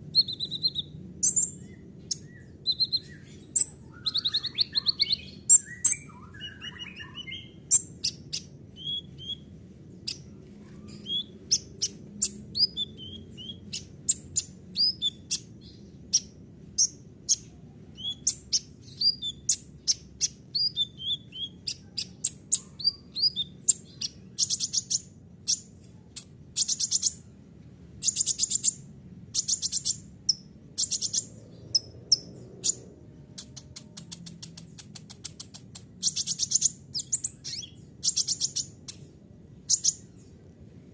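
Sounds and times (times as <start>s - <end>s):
sunbird singing: 0.0s - 27.3s, 28.0s - 40.4s.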